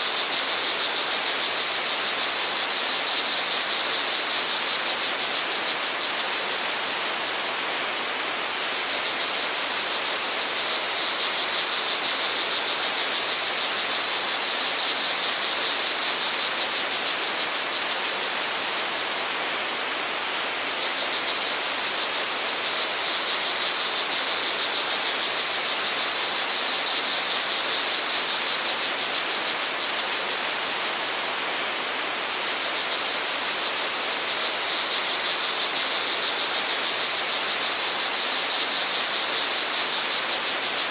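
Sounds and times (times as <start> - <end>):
crickets trilling: 0.0 - 7.8, 8.4 - 19.3, 20.7 - 40.9
rushing water: 0.0 - 40.9.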